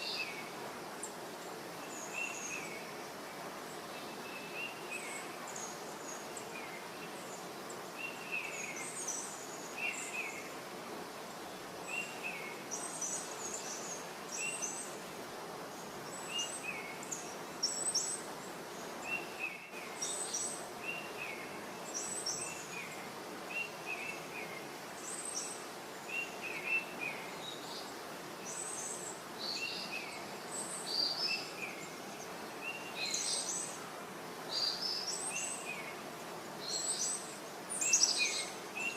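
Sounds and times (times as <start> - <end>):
small birds chirping: 0.0 - 38.9
steady background hiss: 0.0 - 38.9.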